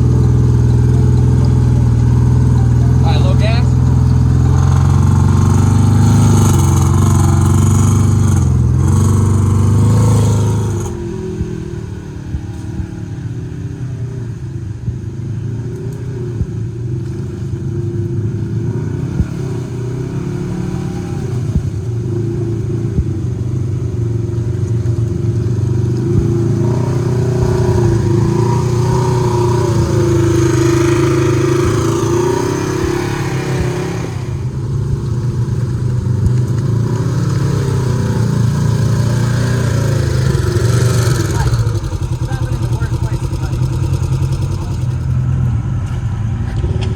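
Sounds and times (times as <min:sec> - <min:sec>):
utv engine running under load: 0:00.0 - 0:46.9.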